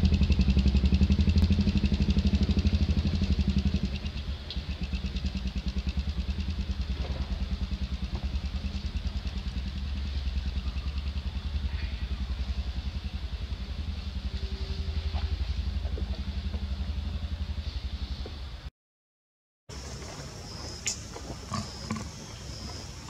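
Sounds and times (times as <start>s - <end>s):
small engine idling: 0.0s - 18.7s, 19.7s - 23.0s.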